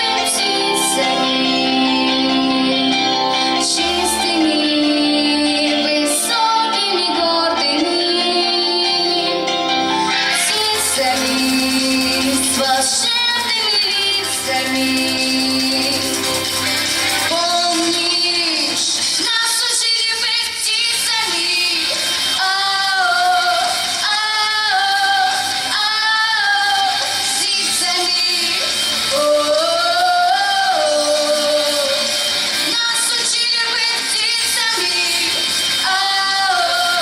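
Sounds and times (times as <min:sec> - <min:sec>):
girl singing: 0:00.0 - 0:09.5, 0:10.2 - 0:16.2, 0:17.3 - 0:37.0
backing track music: 0:00.0 - 0:37.0.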